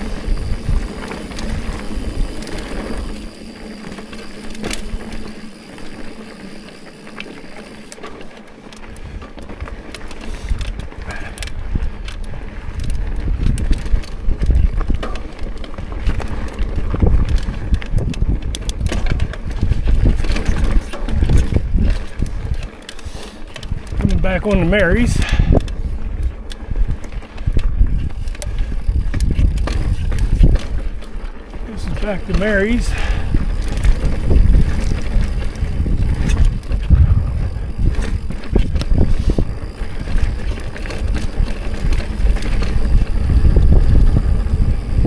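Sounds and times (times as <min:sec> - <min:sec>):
wind rushing over microphone: 0:00.0 - 0:03.3, 0:10.5 - 0:22.7, 0:23.5 - 0:45.0
bike clicks and rattles: 0:00.0 - 0:45.0
bike tyres rolling on dirt: 0:00.0 - 0:45.0.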